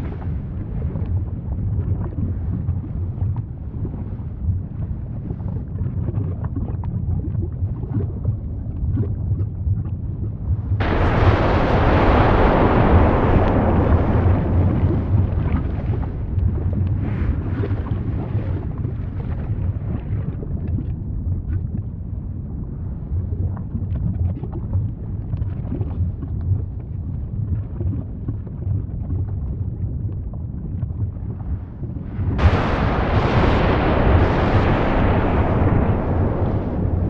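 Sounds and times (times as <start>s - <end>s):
crackles and pops: 0.0s - 22.5s, 23.1s - 37.0s
volcanic eruption rumble: 0.0s - 25.0s, 28.9s - 37.0s.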